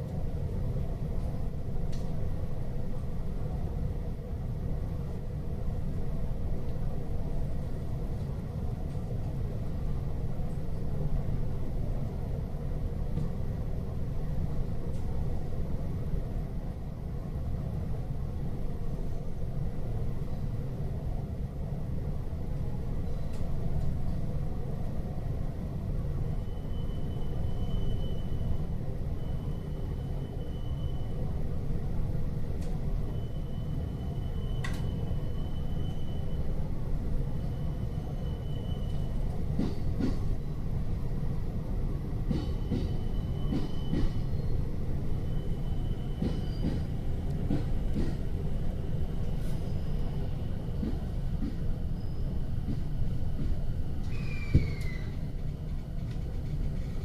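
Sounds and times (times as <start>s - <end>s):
train interior rumble: 0.0s - 57.0s.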